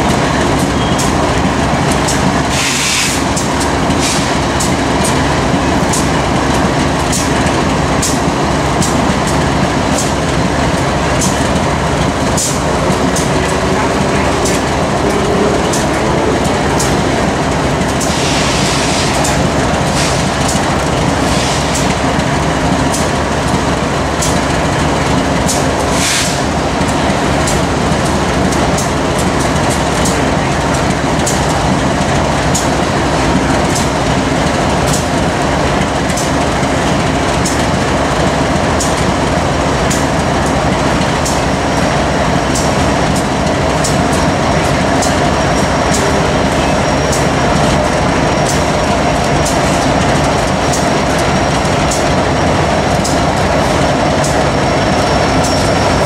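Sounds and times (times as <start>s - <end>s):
sharp rail clicks: 0.0s - 56.0s
train wheels rumbling on rails: 0.0s - 56.0s.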